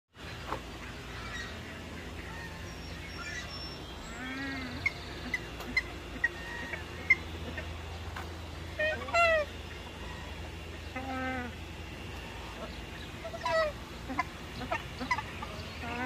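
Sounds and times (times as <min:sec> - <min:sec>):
birds chirping and calling: 0:00.2 - 0:16.0
low background rumble: 0:00.2 - 0:16.0.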